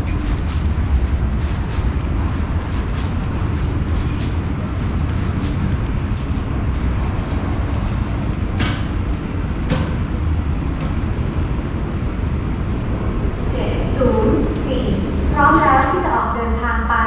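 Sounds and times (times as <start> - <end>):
loud low rumble with hiss: 0.0 - 17.0.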